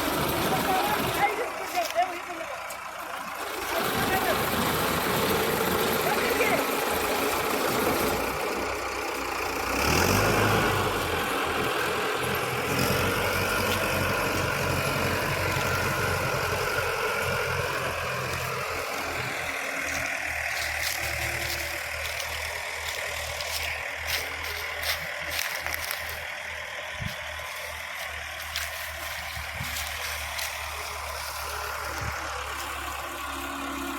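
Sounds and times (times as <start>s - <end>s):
harvester engine running: 0.0s - 33.9s.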